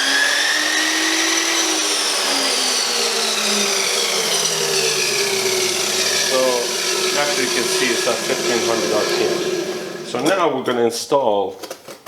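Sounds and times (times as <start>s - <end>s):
chop saw motor whine: 0.0s - 10.3s.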